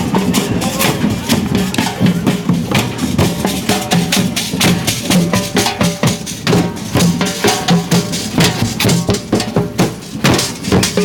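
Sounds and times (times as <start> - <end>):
drums beating steady rhythm: 0.0 - 11.0.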